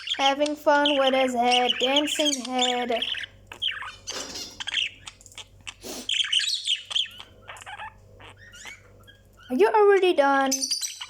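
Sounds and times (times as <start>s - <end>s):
budgerigar warbling: 0.0s - 9.6s.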